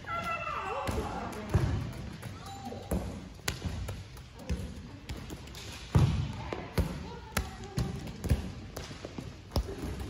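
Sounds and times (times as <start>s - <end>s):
balls bouncing on wooden floor: 0.0s - 10.0s.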